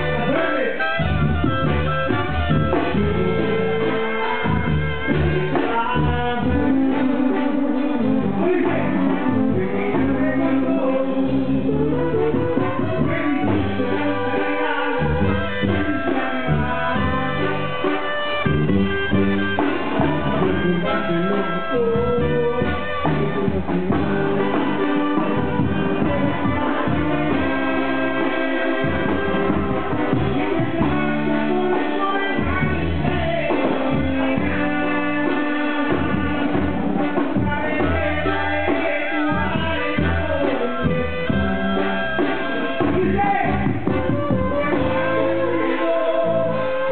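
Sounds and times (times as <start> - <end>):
brass band playing: 0.0 - 46.9.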